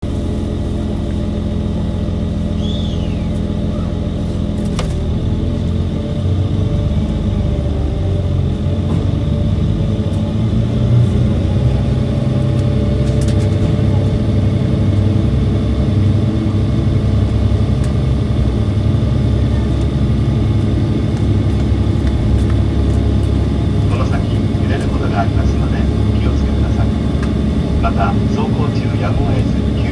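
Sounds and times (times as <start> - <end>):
train diesel engine drone: 0.0 - 29.9.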